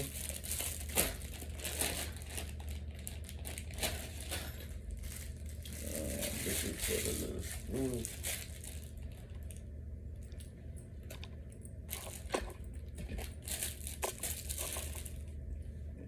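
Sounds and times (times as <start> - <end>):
plastic bag crinkling: 0.0 - 9.6, 11.9 - 15.4
steady low hum: 0.0 - 16.0.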